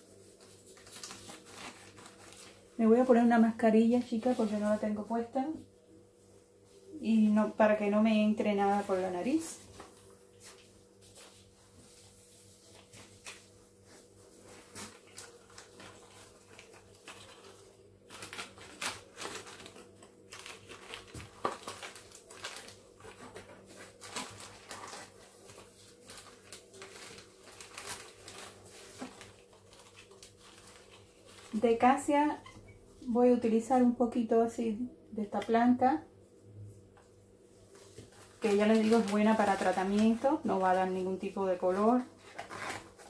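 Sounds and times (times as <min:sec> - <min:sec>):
plastic and cardboard crinkling: 0:00.0 - 0:05.0, 0:08.4 - 0:32.5, 0:37.6 - 0:43.0
faint steady hum: 0:00.0 - 0:43.0.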